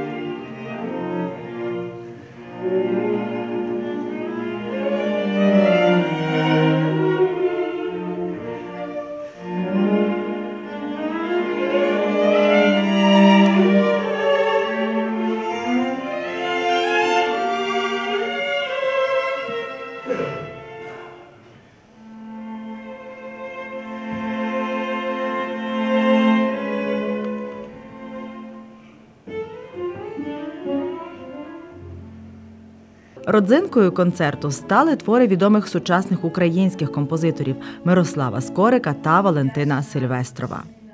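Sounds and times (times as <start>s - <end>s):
string quartet playing: 0.0s - 40.9s.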